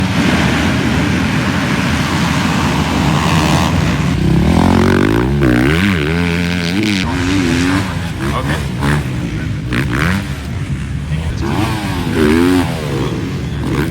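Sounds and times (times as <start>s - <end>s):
dirt bike engines revving: 0.0s - 13.9s.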